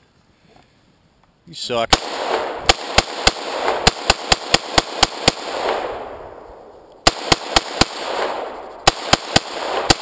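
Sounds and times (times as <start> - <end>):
gunshot echo: 1.9 - 10.0
rifle shots: 1.9 - 10.0.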